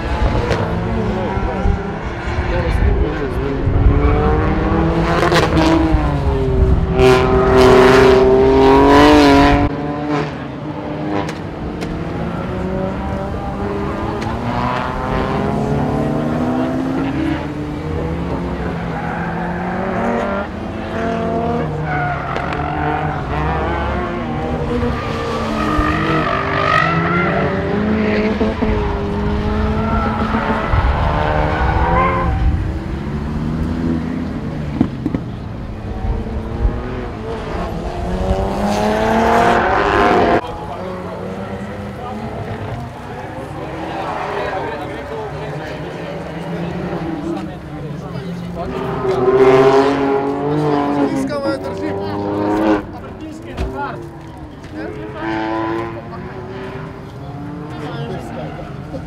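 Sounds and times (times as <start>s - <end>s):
sports car engines revving: 0.0s - 59.0s.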